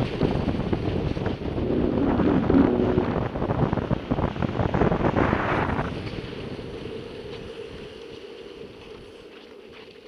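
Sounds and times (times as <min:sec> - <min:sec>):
skateboard wheels rumbling on cobblestones: 0:00.0 - 0:10.0
wind buffeting microphone: 0:00.0 - 0:10.0.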